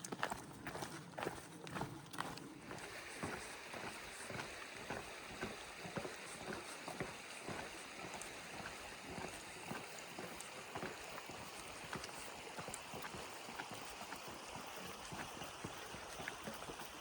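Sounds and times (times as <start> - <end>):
footsteps on a trail: 0.0 - 17.0
steady hiss: 2.5 - 17.0.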